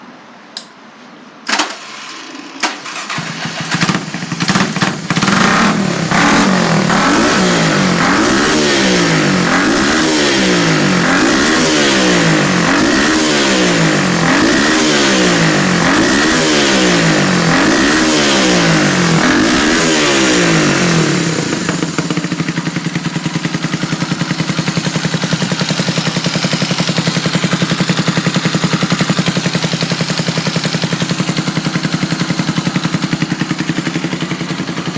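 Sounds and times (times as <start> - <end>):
motorcycle engine revving and idling: 2.2 - 34.9.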